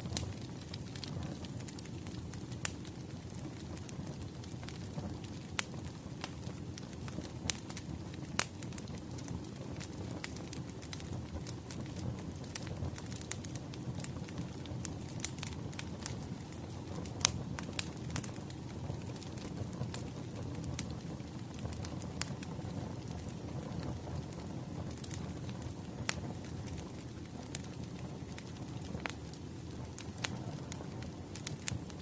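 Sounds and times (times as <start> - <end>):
firewood popping: 0.0 - 32.0
flames rushing: 0.0 - 32.0.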